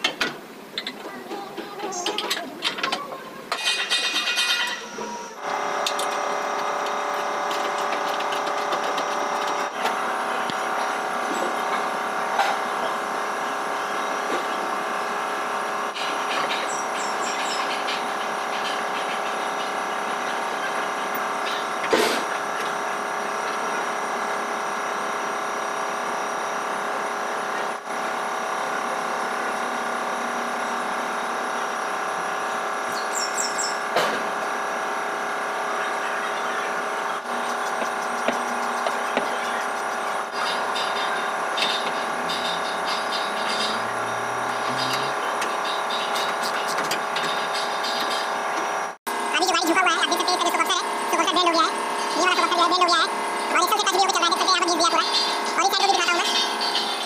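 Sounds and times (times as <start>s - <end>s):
machine drone: 4.6s - 57.0s.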